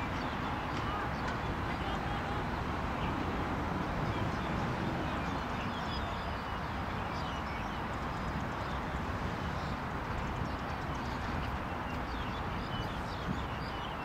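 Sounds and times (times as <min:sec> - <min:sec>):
low outdoor background noise: 0:00.0 - 0:14.0.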